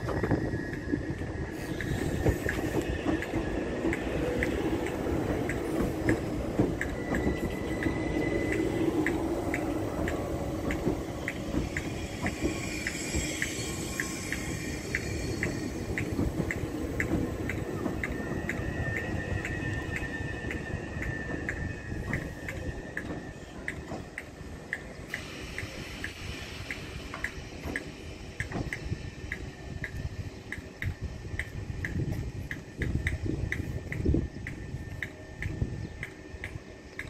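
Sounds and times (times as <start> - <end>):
electric train rolling slowly: 0.0 - 37.0
light ticks of train wheels: 0.0 - 37.0.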